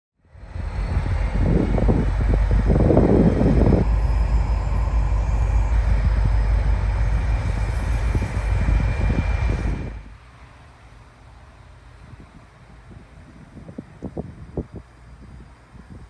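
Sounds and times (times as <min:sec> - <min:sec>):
diesel train rumbling past: 0:00.2 - 0:16.0.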